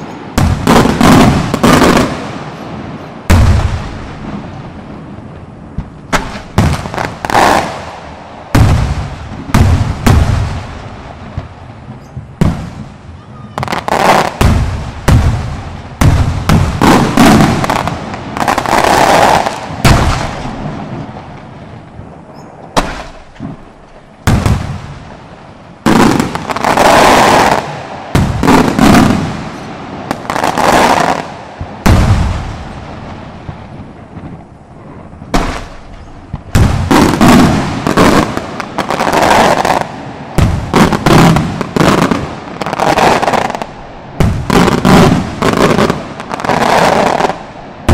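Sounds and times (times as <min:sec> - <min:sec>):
firework bangs: 0:00.0 - 0:47.9
firework crackling: 0:00.0 - 0:47.9.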